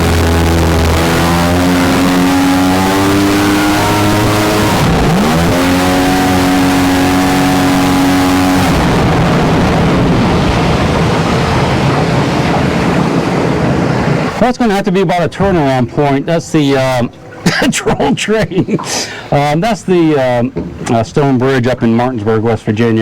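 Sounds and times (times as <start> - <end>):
jet boat engine running: 0.0 - 23.0
water and wind rushing: 0.0 - 23.0.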